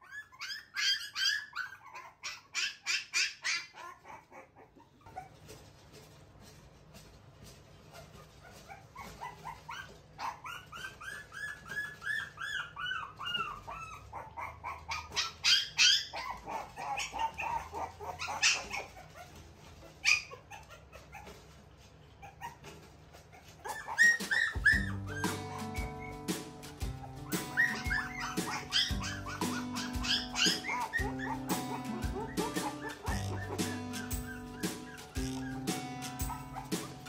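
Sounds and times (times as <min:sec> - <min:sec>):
puppy whining and yipping: 0:00.0 - 0:06.1, 0:07.8 - 0:37.0.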